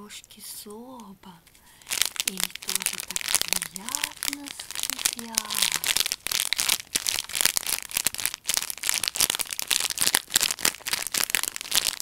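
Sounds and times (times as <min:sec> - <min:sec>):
plastic wrapper crinkling: 0:00.3 - 0:12.0.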